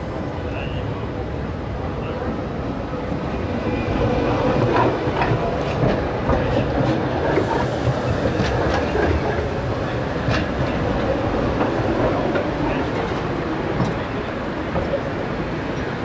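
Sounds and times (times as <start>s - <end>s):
tram wheels rumbling on track: 0.0s - 16.0s.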